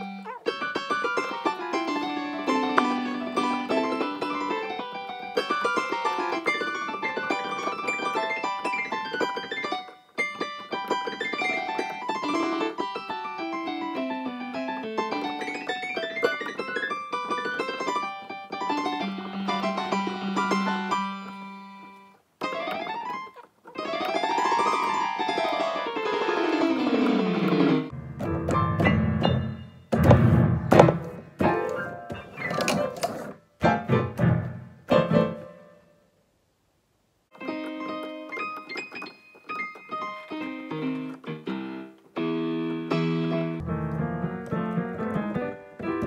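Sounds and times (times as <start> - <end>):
electric keyboard piano music: 0.0 - 33.0, 33.6 - 35.9, 37.3 - 46.0.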